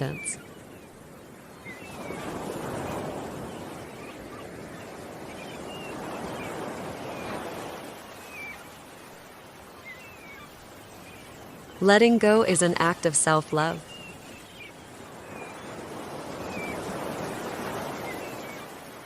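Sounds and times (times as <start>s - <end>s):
small birds chirping: 0.0s - 18.8s
ocean waves washing in: 0.0s - 19.0s.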